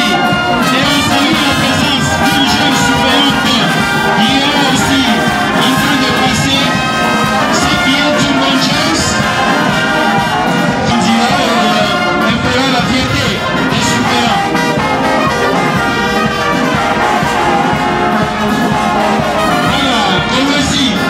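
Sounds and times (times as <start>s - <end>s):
brass band playing a march: 0.0s - 21.0s.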